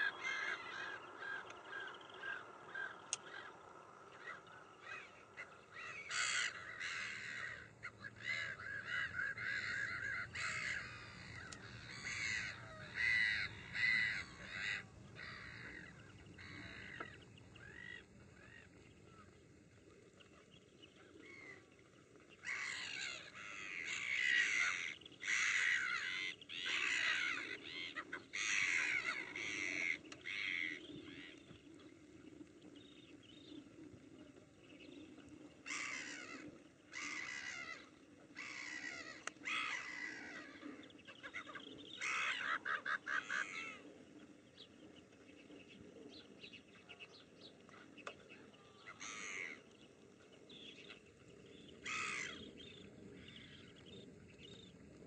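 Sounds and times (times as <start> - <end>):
gulls calling: 0.0 - 55.0
low background hum: 0.0 - 55.0.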